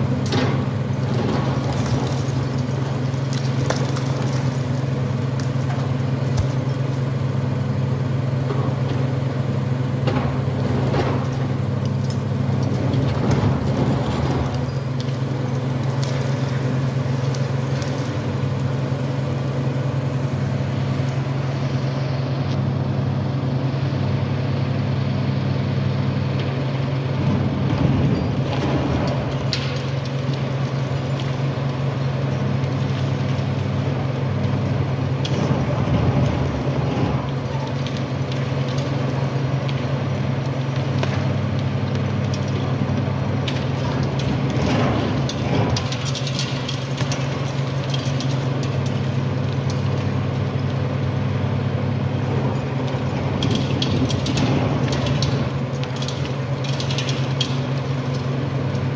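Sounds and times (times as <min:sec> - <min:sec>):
concrete cracking and crunching: 0:00.0 - 0:22.6, 0:26.5 - 0:58.9
diesel engine humming: 0:00.0 - 0:58.9.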